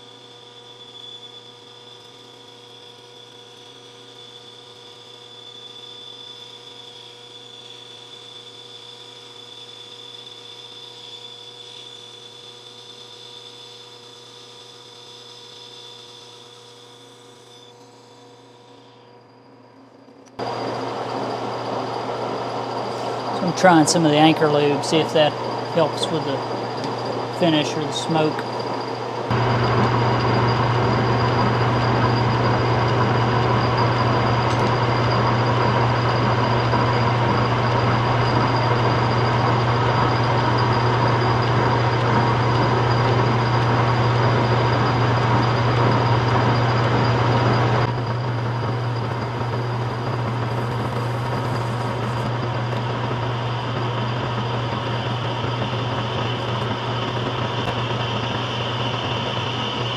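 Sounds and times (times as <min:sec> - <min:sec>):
cutting hiss and whine: 0:00.0 - 0:59.9
lathe motor hum: 0:00.0 - 0:59.9.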